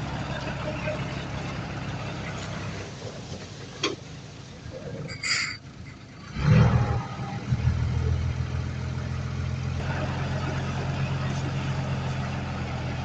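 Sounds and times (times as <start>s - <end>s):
heavy diesel engine running: 0.0s - 4.7s, 5.6s - 13.0s.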